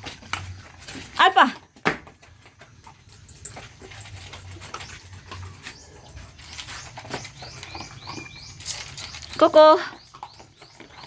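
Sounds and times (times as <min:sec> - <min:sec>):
young dogs playing and scuffling: 0:00.0 - 0:11.0.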